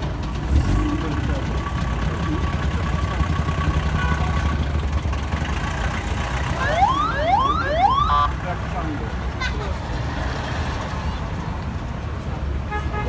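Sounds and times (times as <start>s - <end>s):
car engines rumbling at low speed: 0.0s - 13.0s.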